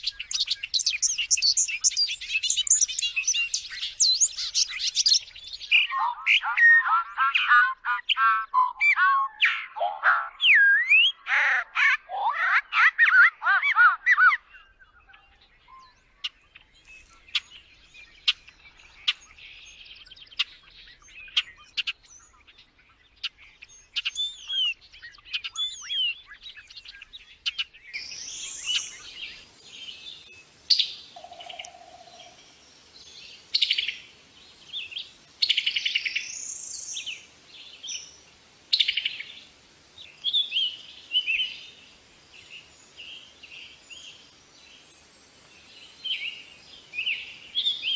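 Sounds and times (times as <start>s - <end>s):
songbirds chirping and singing: 0.0s - 47.9s.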